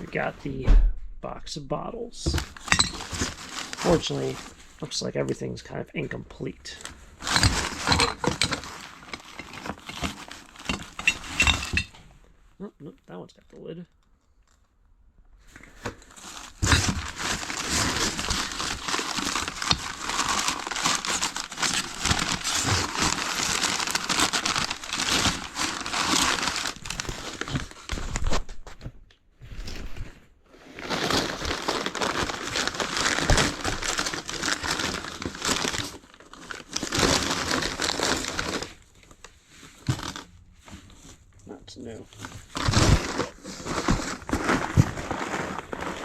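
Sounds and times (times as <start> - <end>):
packing material crinkling: 2.2 - 5.3, 6.0 - 11.9, 15.5 - 28.6, 30.5 - 46.0.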